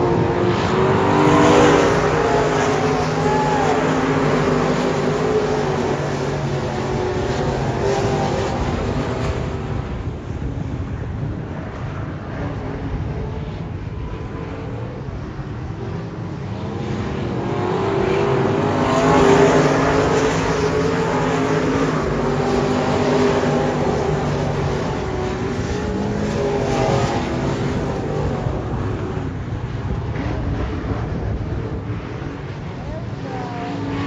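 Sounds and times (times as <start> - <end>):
race car engines at full throttle: 0.0 - 34.0.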